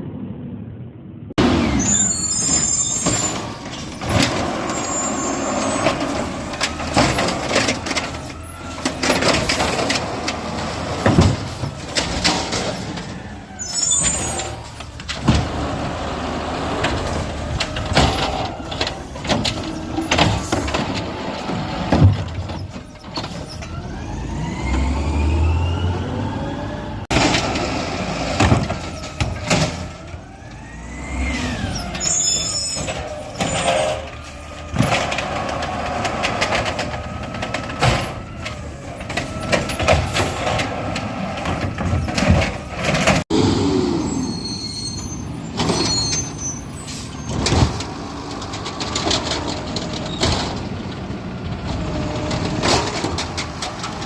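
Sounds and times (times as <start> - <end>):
garbage truck engines revving: 1.4 - 54.0.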